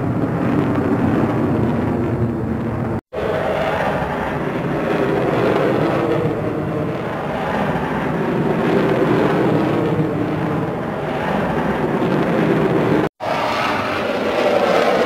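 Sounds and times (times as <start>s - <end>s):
engine-like rushing noise: 0.0s - 15.0s
low drone: 0.0s - 15.0s.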